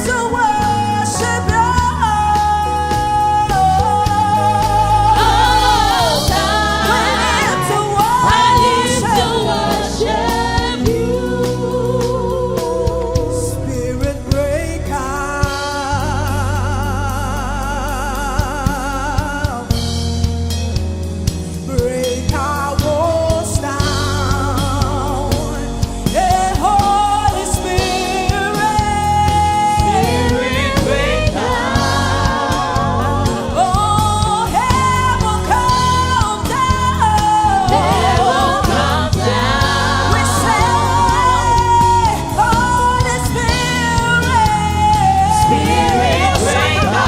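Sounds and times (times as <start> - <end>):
gospel band with steady bass: 0.0 - 47.0.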